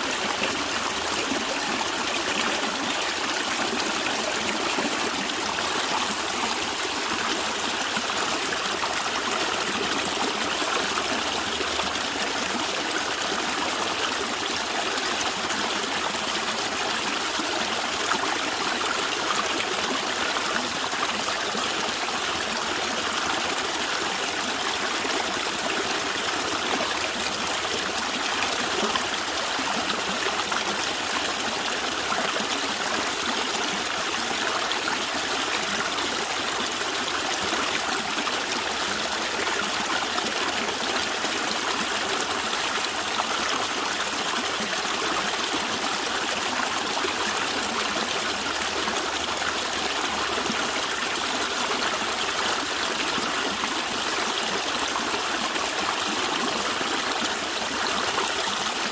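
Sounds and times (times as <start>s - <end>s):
stream water gurgling: 0.0s - 58.9s.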